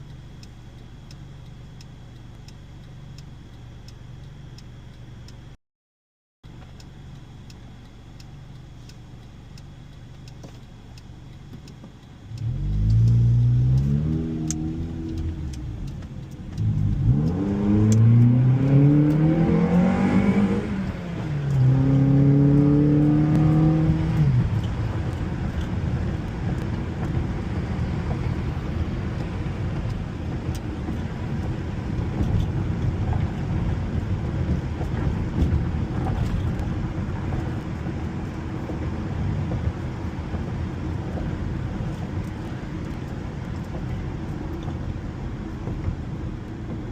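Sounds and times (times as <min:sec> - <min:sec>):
road noise: 0:00.0 - 0:05.6, 0:06.4 - 0:46.9
car engine accelerating: 0:06.5 - 0:46.9.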